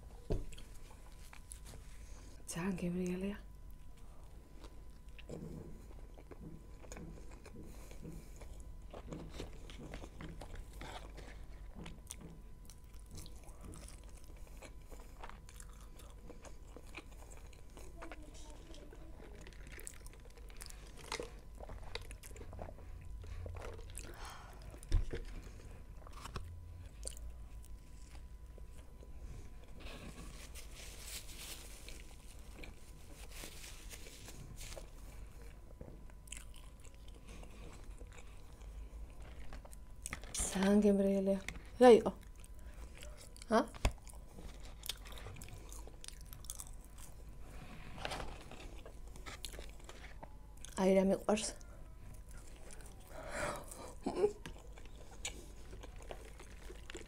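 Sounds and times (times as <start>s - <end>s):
person chewing burger and fries: 0.2s - 2.4s, 3.6s - 40.5s, 41.6s - 50.8s, 51.6s - 57.0s.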